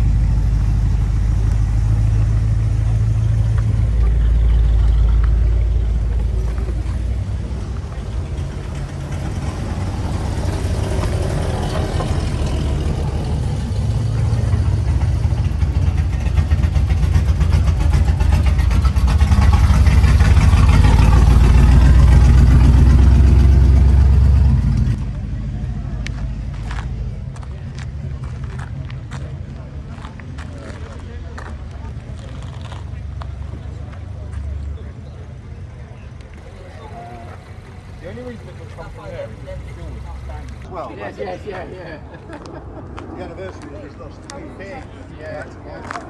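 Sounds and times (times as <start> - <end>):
car engine idling: 0.0 - 40.7.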